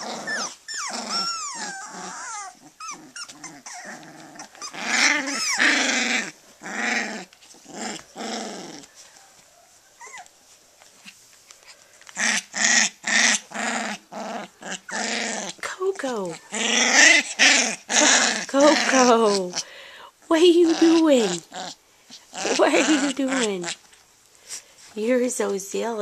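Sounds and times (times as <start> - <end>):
puppies play-growling and whining: 0.0 - 19.7, 20.3 - 24.9.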